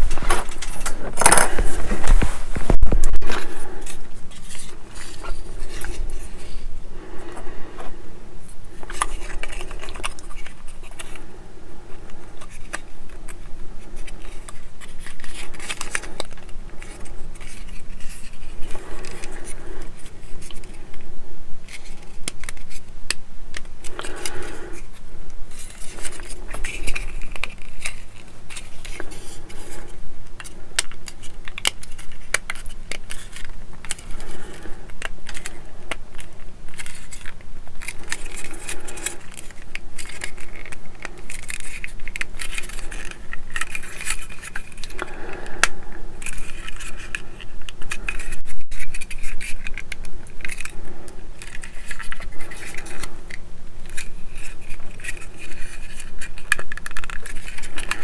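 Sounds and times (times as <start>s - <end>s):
plastic parts clicking and scraping: 0.0s - 58.0s.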